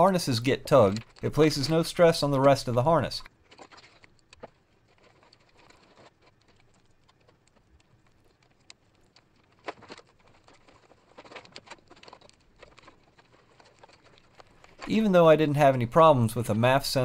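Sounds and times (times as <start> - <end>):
wiring harness rustling and clicking: 0.0 - 15.9
small ticks: 0.4 - 14.9.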